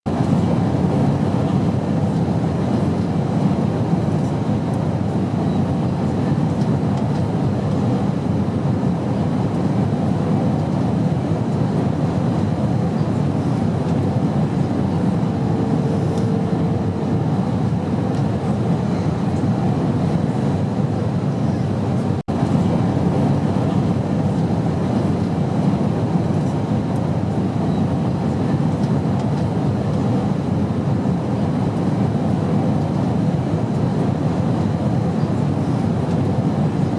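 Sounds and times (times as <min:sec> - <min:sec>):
airliner cabin drone: 0:00.1 - 0:36.9.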